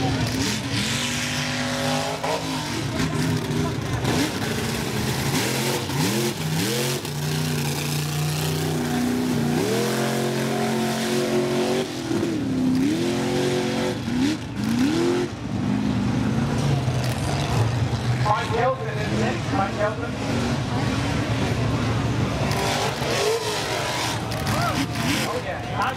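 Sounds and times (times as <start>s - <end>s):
truck engine revving: 0.0s - 25.9s.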